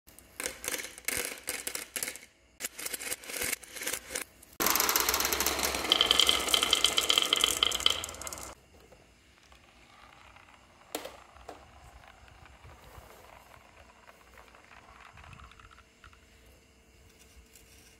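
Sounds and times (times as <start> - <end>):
marbles clicking on a rail: 0.2 - 8.6, 9.4 - 16.4
marbles rattling through track: 0.3 - 8.6, 9.4 - 16.4.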